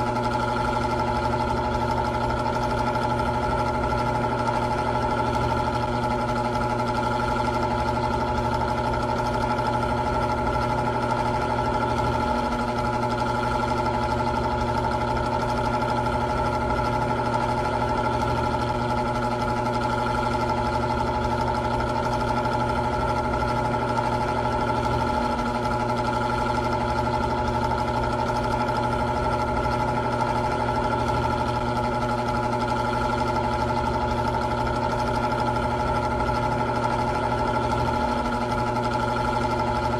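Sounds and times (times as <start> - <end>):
electric fan motor humming: 0.0 - 39.9.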